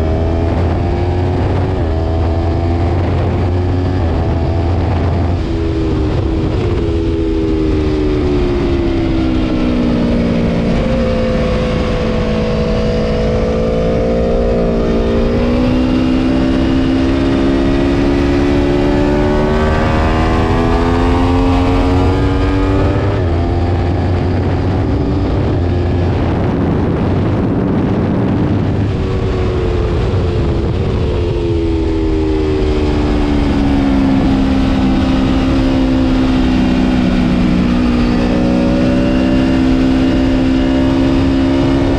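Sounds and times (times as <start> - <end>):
motorcycle engine revving: 0.0 - 41.9
wind rush: 0.0 - 41.9.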